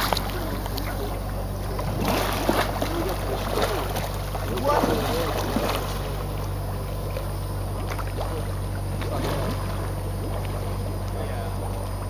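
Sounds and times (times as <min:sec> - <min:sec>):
faint voices: 0:00.0 - 0:12.0
steady low hum: 0:00.0 - 0:12.0.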